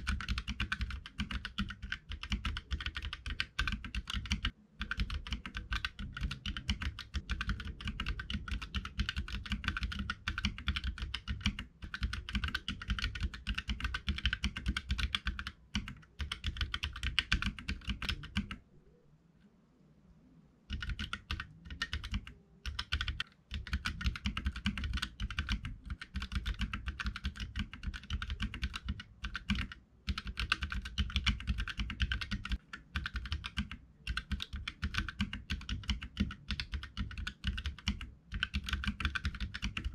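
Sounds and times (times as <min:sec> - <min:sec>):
mechanical keyboard typing: 0:00.0 - 0:18.6, 0:20.7 - 0:39.9.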